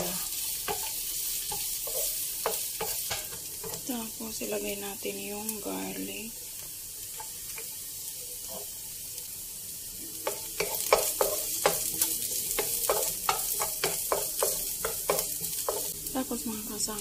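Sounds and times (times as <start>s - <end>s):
onion and garlic sizzling: 0.0s - 17.0s.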